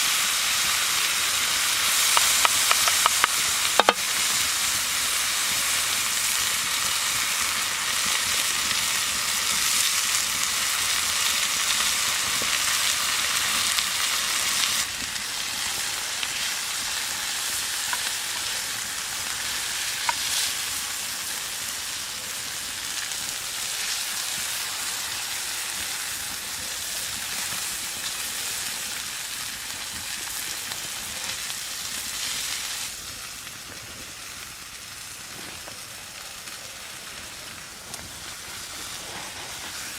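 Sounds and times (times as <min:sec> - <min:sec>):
meat sizzling: 0:00.0 - 0:39.9.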